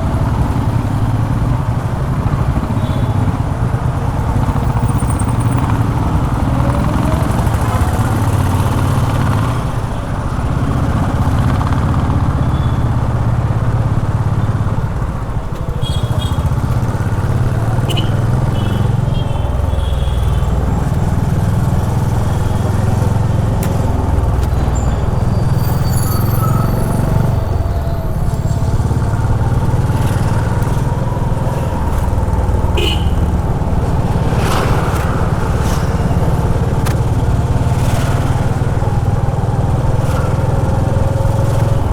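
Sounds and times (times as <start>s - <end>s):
motorcycle engine running: 0.0s - 25.9s, 26.8s - 41.9s
city traffic: 0.0s - 41.9s.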